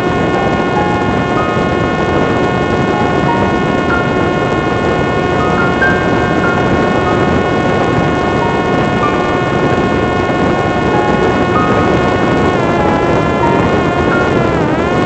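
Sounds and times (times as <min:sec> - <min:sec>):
electric motor and propeller whine: 0:00.0 - 0:15.0
loud rush of wind: 0:00.0 - 0:15.0.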